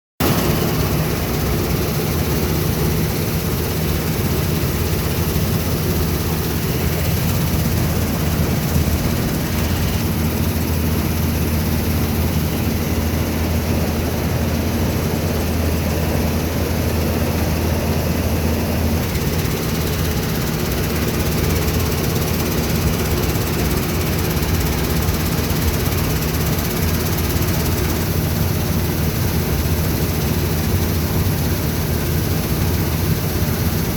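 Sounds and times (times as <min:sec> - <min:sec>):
diesel engine droning: 0:00.2 - 0:33.8.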